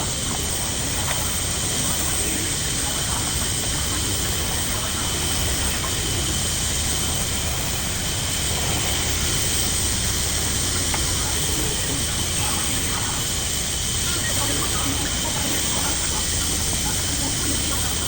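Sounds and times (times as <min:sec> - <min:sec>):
hiss: 0:00.0 - 0:18.0
mechanical hum: 0:00.0 - 0:18.0.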